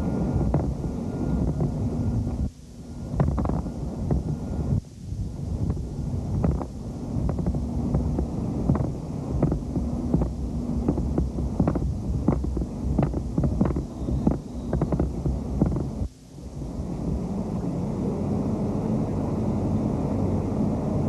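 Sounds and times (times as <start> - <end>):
faint steady hum: 0.0 - 21.0
wind rumble on microphone: 0.0 - 21.0.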